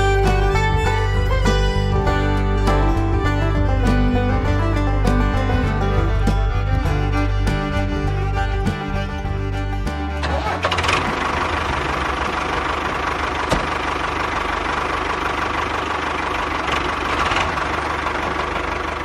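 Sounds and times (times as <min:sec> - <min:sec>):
diesel engine knocking rattle: 0:00.0 - 0:19.0.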